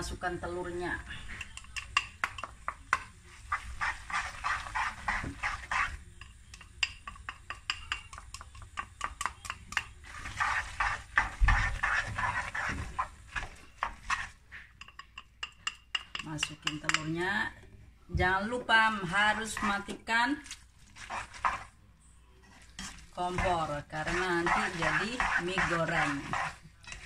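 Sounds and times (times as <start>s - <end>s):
utensils scraping a frying pan: 1.0s - 17.0s, 18.9s - 21.8s, 22.4s - 27.0s.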